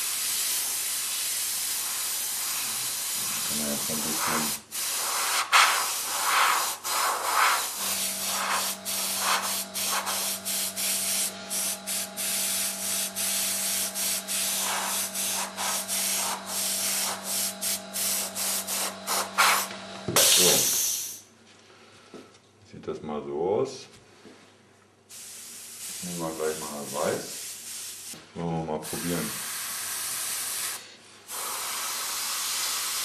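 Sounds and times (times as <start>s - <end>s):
airbrush spraying hiss: 0.0s - 21.2s, 25.1s - 28.2s, 28.8s - 33.0s.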